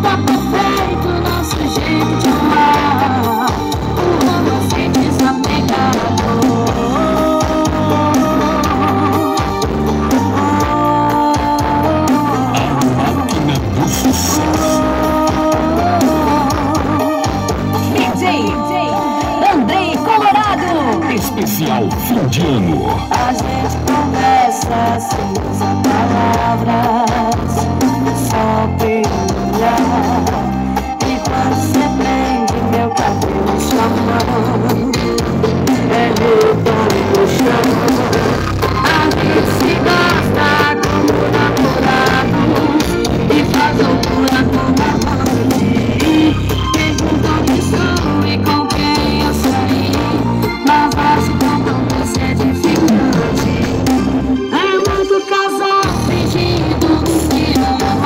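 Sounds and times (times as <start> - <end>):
steady drum beat: 0.0 - 32.0, 32.6 - 55.2
heavy bass line: 0.0 - 54.8, 55.8 - 58.0
song with singing and guitar: 0.0 - 58.0.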